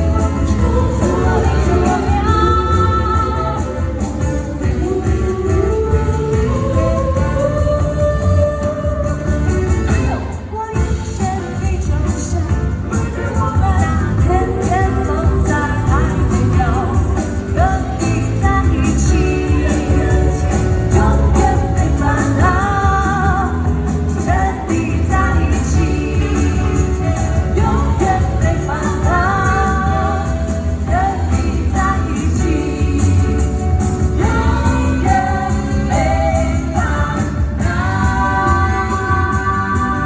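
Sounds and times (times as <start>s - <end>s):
female vocal trio singing: 0.0s - 40.0s
jazz band playing: 0.0s - 40.0s.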